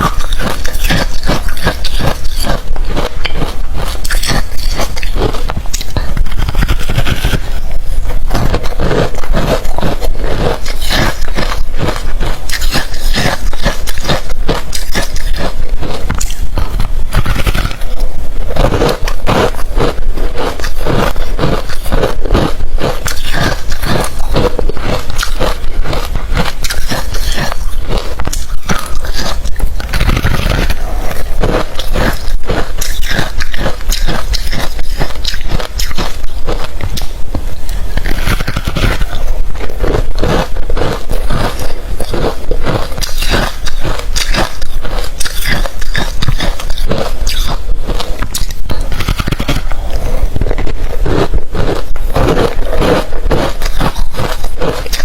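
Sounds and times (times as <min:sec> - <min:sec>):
chewing crunchy ice: 0:00.0 - 0:55.0.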